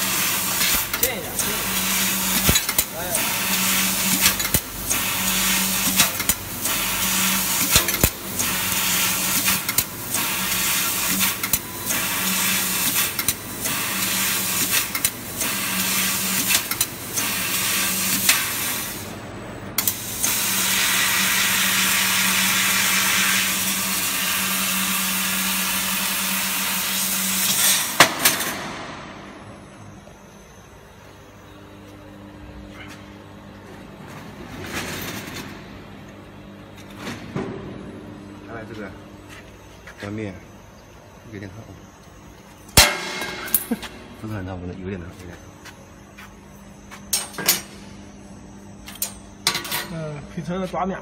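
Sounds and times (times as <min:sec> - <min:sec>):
steady low hum: 0:00.0 - 0:20.3, 0:27.0 - 0:51.0.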